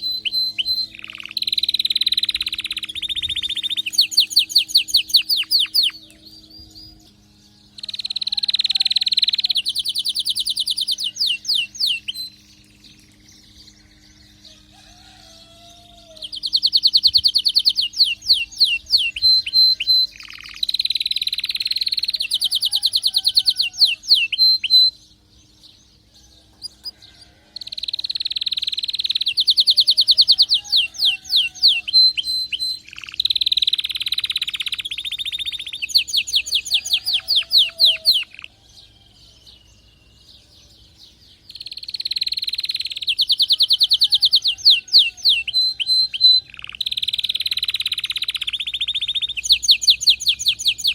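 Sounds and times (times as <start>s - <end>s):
canary trilling song: 0.0s - 50.9s.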